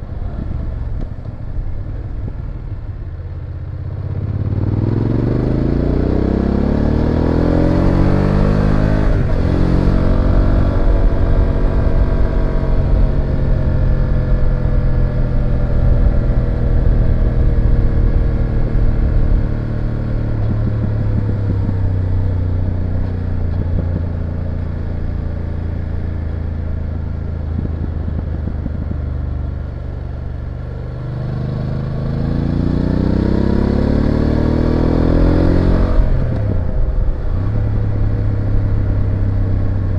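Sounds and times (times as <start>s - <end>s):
motorcycle engine revving: 4.0s - 39.9s.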